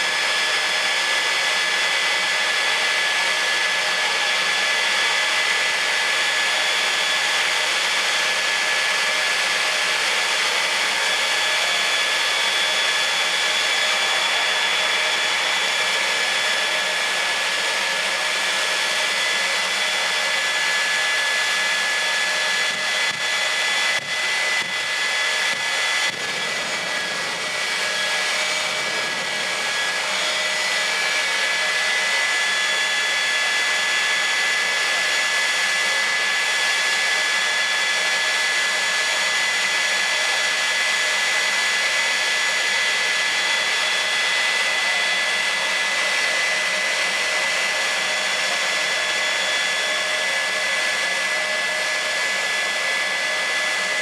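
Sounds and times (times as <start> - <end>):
jet turbine engine whine: 0.0 - 54.0.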